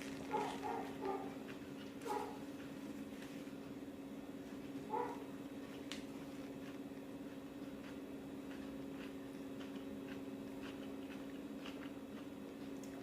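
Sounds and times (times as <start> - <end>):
person chewing food: 0.0 - 3.8, 4.4 - 13.0
low electrical hum: 0.0 - 13.0.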